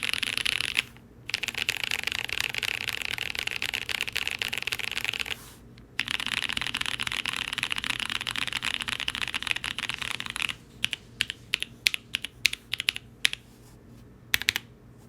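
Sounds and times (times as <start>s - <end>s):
mechanical keyboard typing: 0.0s - 5.4s, 6.0s - 13.4s, 14.3s - 14.7s.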